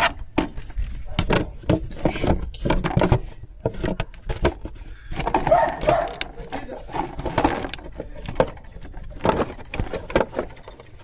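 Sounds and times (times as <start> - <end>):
plastic cover knocks and scrapes: 0.0 - 10.5.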